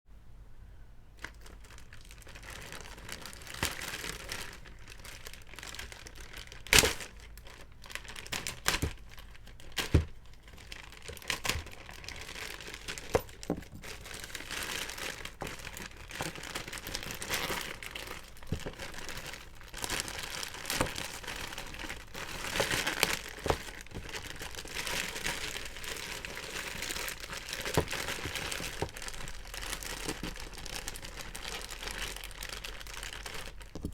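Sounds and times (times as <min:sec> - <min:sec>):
packaging crinkling and rustling: 0:01.2 - 0:33.9.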